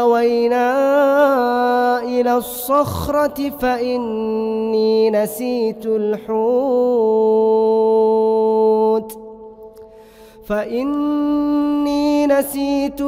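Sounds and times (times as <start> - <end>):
man chanting melodically: 0.0 - 9.2, 10.5 - 13.0.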